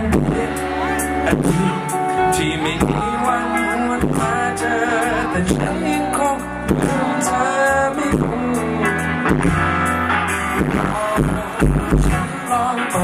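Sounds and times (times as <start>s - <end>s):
steady drum beat: 0.0s - 2.0s, 2.7s - 4.6s, 5.3s - 13.0s
bass guitar: 0.0s - 13.0s
electric guitar: 0.0s - 13.0s
man singing lead: 0.0s - 13.0s.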